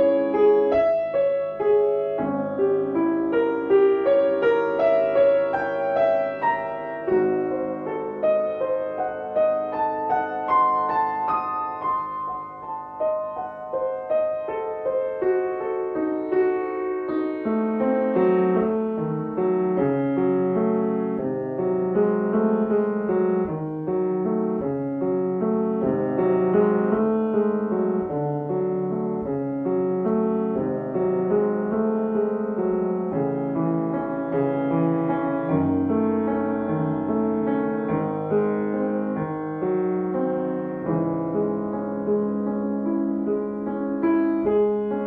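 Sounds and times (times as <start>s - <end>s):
slow piano music: 0.0s - 45.0s.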